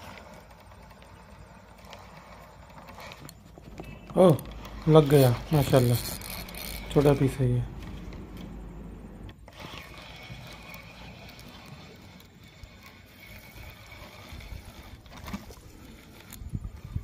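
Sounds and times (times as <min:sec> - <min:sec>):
fishing reel whirring: 0:00.0 - 0:08.7, 0:09.3 - 0:17.0.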